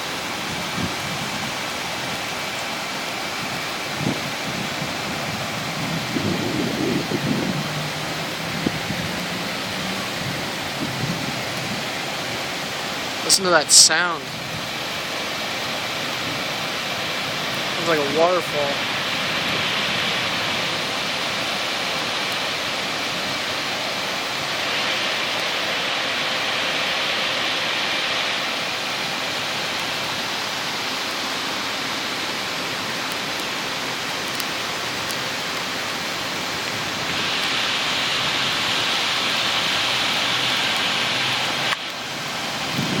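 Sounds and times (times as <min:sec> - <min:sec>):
floodwater rushing: 0:00.0 - 0:43.0.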